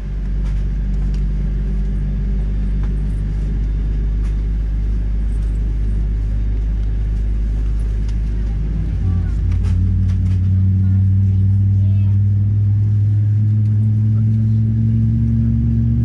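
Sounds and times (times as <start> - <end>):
jet engines rumbling in cabin: 0.0 - 16.0.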